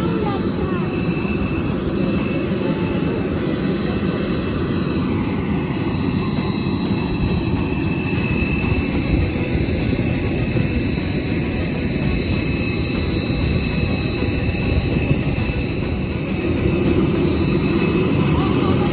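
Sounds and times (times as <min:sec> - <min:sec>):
faint high whine: 0:00.0 - 0:18.9
jet airliner rumble: 0:00.0 - 0:18.9.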